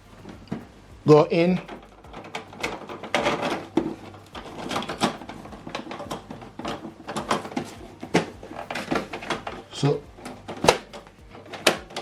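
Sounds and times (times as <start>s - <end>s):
plastic clicks and knocks: 1.6s - 12.0s.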